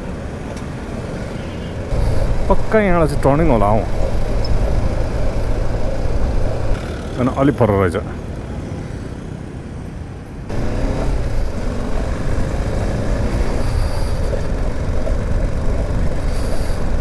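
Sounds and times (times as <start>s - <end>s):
motorcycle engine and road noise: 0.0s - 17.0s.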